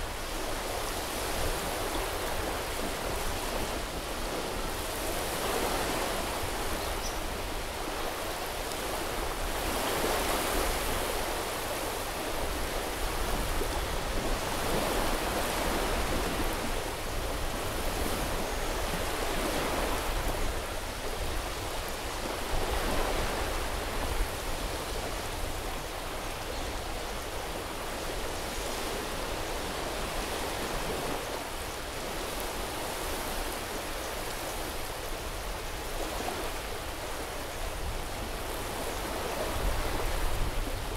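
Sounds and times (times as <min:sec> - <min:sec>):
sea waves washing onto beach: 0:00.0 - 0:40.9.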